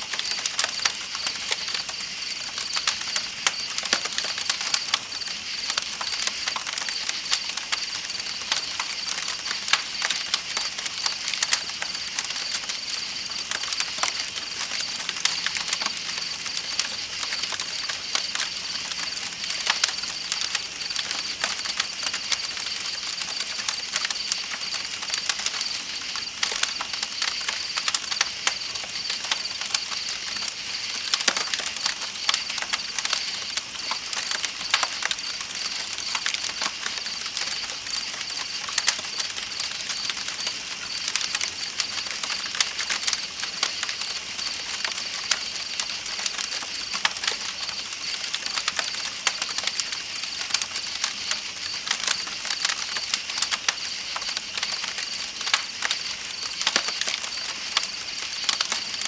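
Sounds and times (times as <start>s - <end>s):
campfire crackling: 0.0s - 59.0s
night insects trilling: 0.0s - 59.0s.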